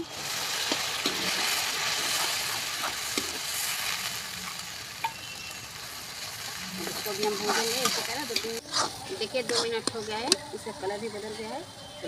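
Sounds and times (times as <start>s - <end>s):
loud sizzle in hot oil: 0.0s - 10.2s.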